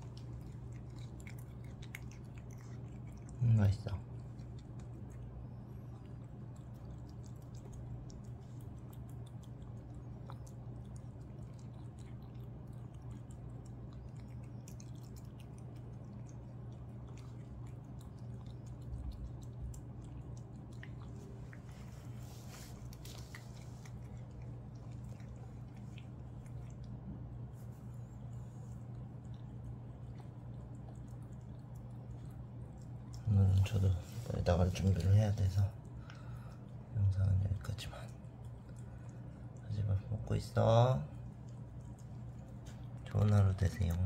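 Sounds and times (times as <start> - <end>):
cat chewing and lapping food: 0.0 - 44.0
steady low hum: 0.0 - 44.0.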